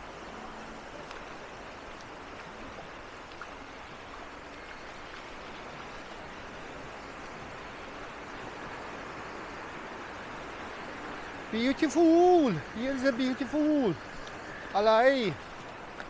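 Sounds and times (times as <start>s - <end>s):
beach surf: 0.0s - 16.0s
sea breeze: 0.0s - 16.0s.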